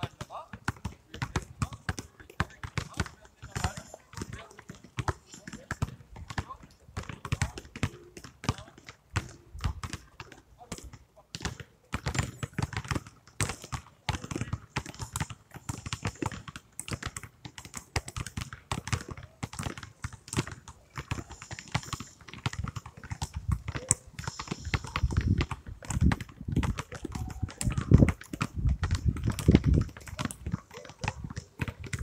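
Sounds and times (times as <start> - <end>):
basketballs dribbled on asphalt: 0.0 - 32.0.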